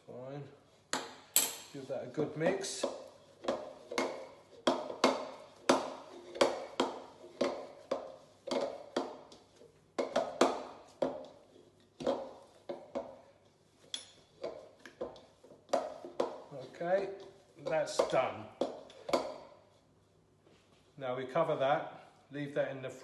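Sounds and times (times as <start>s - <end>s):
dough slapping in bowl: 0.9s - 19.8s.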